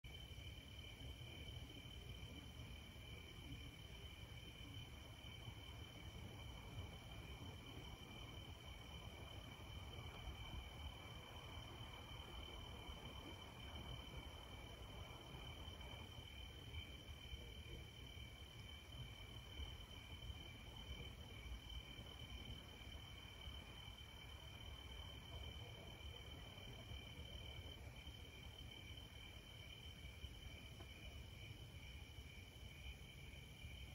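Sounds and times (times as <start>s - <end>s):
crickets chirping: 0.1s - 33.9s.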